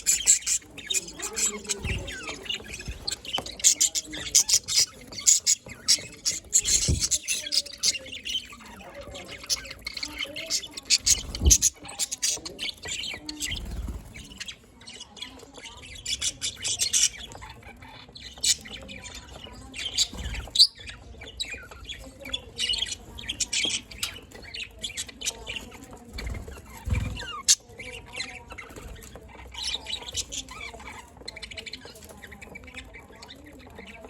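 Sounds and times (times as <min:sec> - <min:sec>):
budgerigars chattering: 0:00.0 - 0:34.0.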